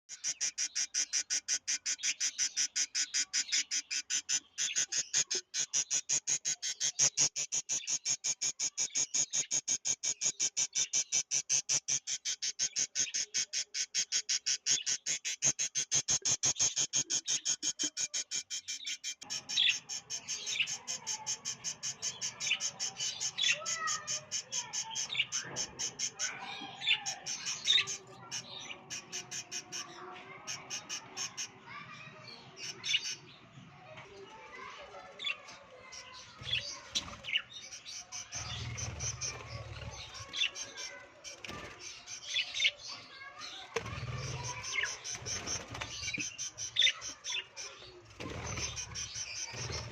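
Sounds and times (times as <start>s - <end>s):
lovebirds chirping: 0.0s - 49.9s.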